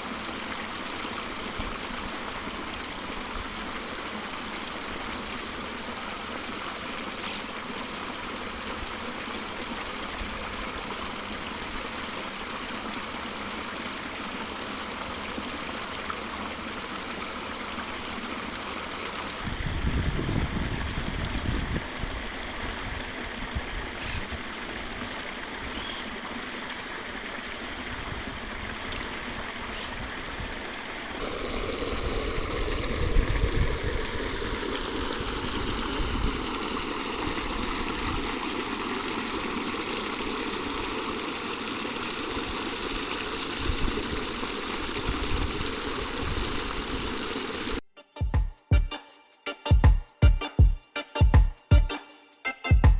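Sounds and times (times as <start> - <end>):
stream water rushing: 0.0 - 47.8.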